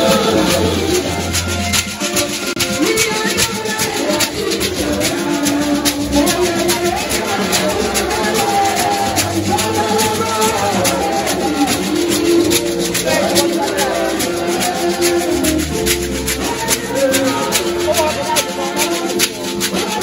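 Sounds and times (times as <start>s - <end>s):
gourd rattles shaken: 0.0s - 20.0s
music with melodic lines: 0.0s - 20.0s.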